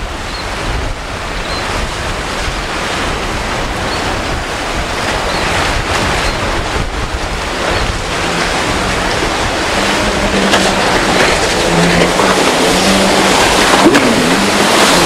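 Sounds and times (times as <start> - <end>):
motorboat engine hum: 0.0 - 15.0
rough surf: 0.0 - 15.0
wind noise on microphone: 0.0 - 15.0.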